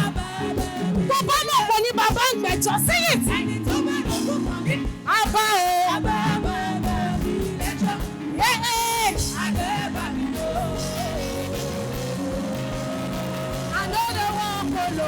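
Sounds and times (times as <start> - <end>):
band playing: 0.0 - 15.0
lead singer: 0.0 - 15.0
singers holding notes: 0.0 - 15.0.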